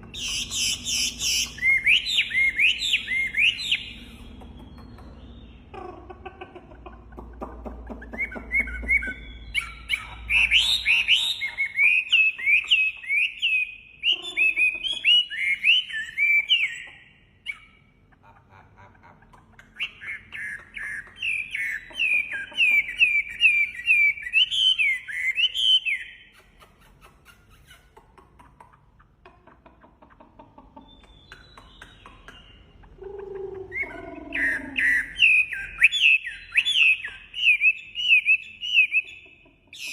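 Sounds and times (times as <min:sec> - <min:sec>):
songbird chirping: 0:00.0 - 0:18.6, 0:19.2 - 0:39.9.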